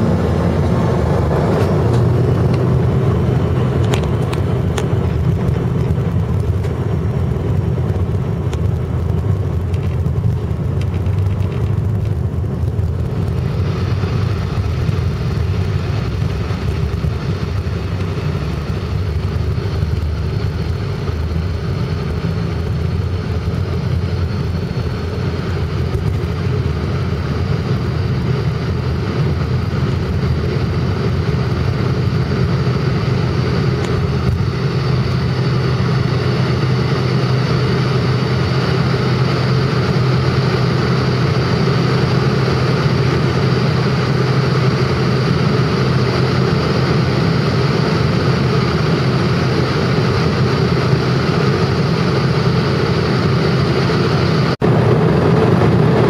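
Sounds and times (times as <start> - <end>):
airliner engines droning in cabin: 0.0 - 56.0.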